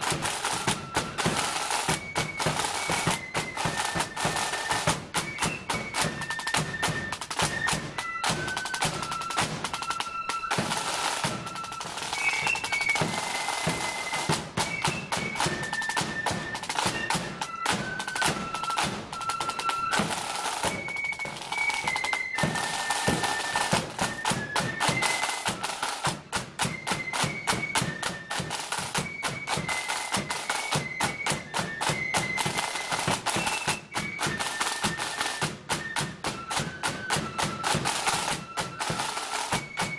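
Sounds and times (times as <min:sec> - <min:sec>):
flutes playing marching melody: 0:00.0 - 0:39.9
rapid snare drumming: 0:00.0 - 0:39.9.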